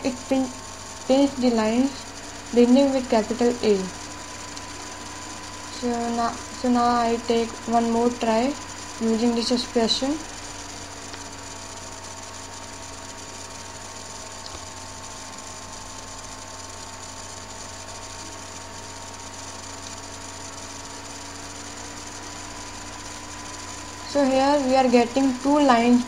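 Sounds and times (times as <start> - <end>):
electrical hum: 0.0 - 26.0
faint whining tones: 0.0 - 26.0.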